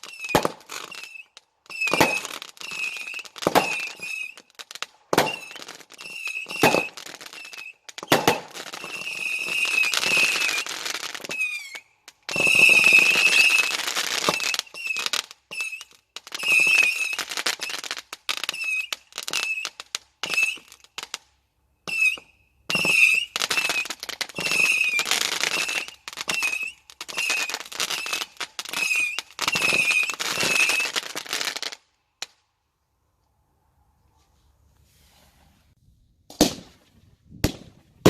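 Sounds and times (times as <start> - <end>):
fireworks whistling: 0.0 - 21.0, 21.8 - 31.8
fireworks crackling bursts: 0.0 - 32.4.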